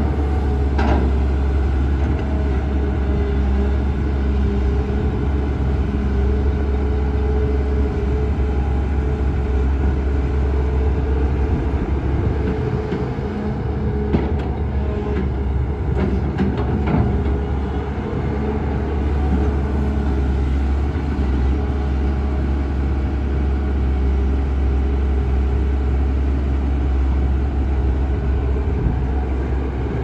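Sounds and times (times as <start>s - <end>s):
excavator diesel engine rumbling: 0.0s - 30.0s.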